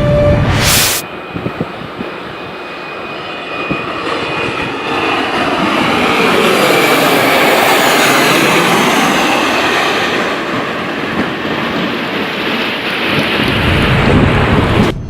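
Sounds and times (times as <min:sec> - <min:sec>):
high engine whine: 0:00.0 - 0:15.0
jet engines roaring: 0:00.0 - 0:15.0.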